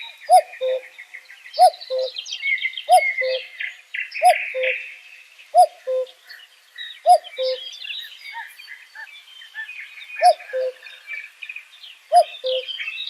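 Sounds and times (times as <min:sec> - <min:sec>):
small birds twittering: 0:00.0 - 0:13.0.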